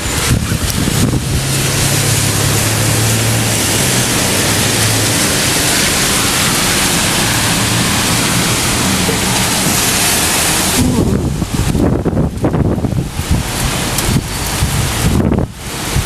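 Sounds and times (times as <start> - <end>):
heavy rain and storm wind: 0.0 - 16.0.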